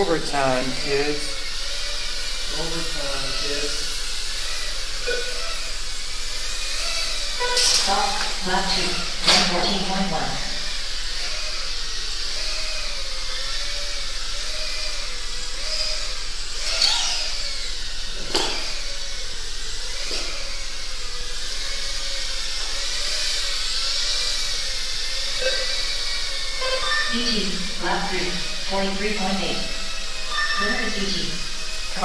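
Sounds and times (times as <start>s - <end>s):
drones buzzing with motor whine: 0.0s - 32.0s.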